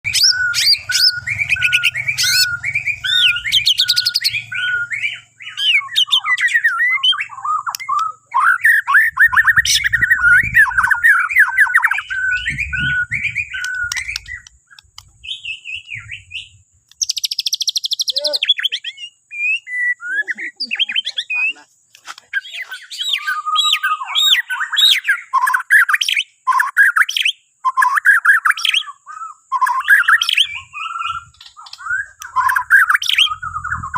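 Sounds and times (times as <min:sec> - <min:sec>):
bird singing: 0:00.0 - 0:33.9.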